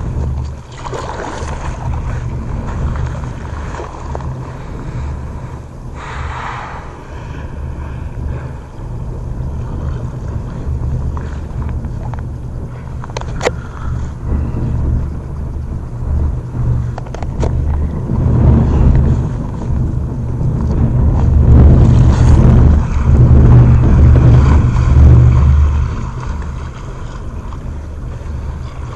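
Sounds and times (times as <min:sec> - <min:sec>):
boat engine rumbling: 0:00.0 - 0:28.9.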